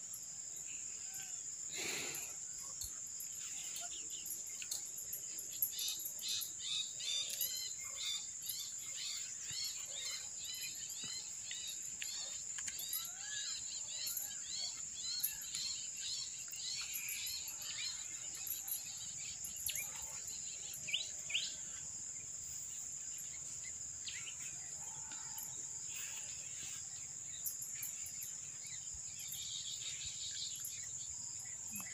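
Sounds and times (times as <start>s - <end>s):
bird chirps: 0.6s - 31.9s.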